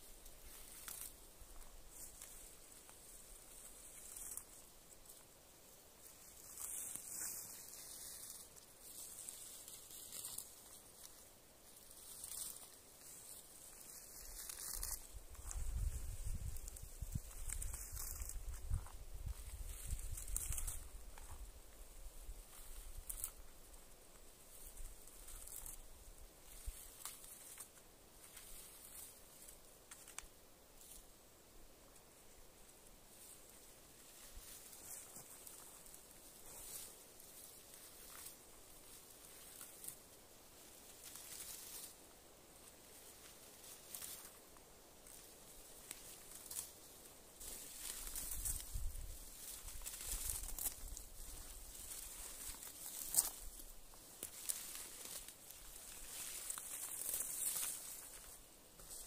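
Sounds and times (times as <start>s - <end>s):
rustling of berry shrubs: 0.0s - 59.0s.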